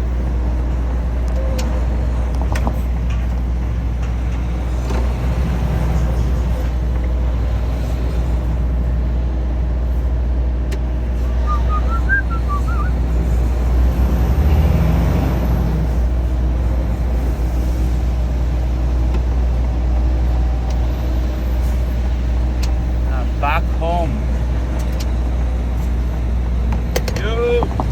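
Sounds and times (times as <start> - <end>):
truck diesel engine running: 0.0 - 27.9.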